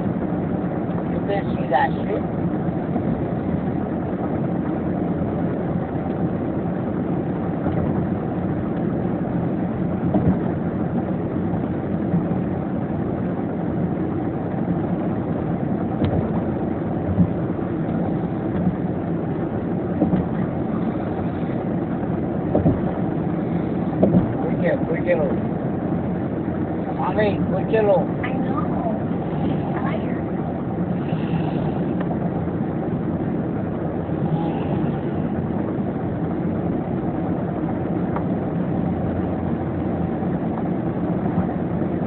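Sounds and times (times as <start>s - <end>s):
car cabin road and engine rumble: 0.0s - 42.0s.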